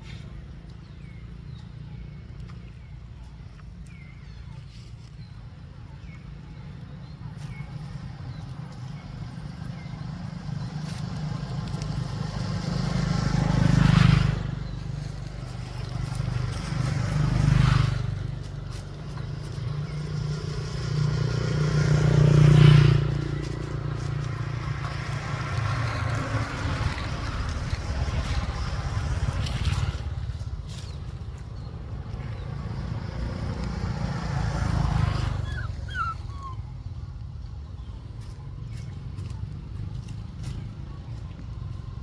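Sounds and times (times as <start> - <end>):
vehicle engines passing by: 0.0 - 42.0.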